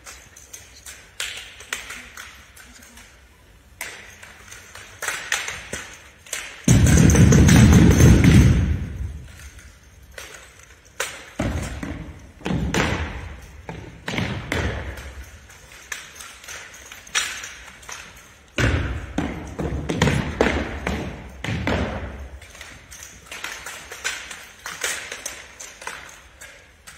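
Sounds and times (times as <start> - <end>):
rifles slapping and thumping: 0.0 - 26.9.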